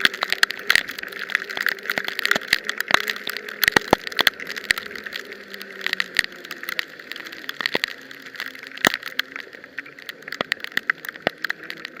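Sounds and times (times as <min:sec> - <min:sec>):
heavy rain hissing: 0:00.0 - 0:12.0
sharp taps of raindrops: 0:00.0 - 0:12.0.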